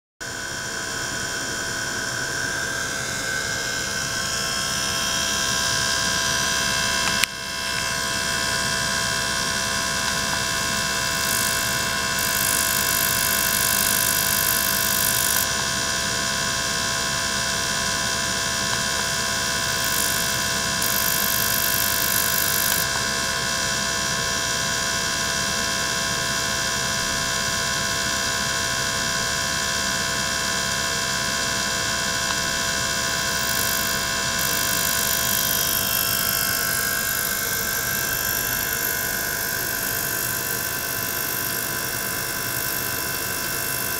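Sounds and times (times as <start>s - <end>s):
water pump whine: 0.2s - 43.9s.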